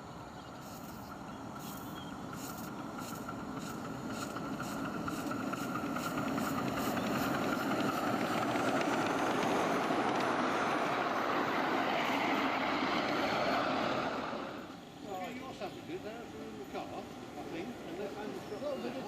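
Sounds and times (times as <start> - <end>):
miniature train running: 0.7 - 19.0.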